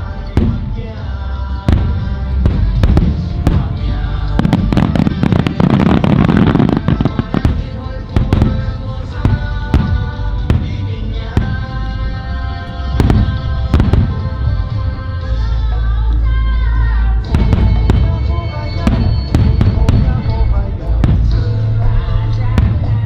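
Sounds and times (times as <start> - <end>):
fireworks bursting: 0.0 - 15.7, 17.3 - 23.0
music playing: 0.0 - 23.0.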